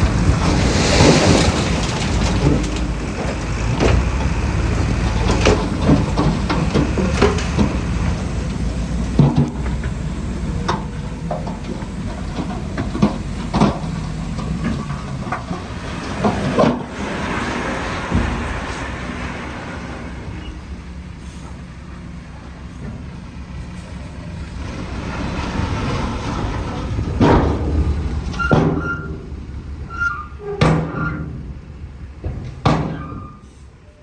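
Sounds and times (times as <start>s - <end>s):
diesel earthmoving machinery running: 0.0s - 34.0s.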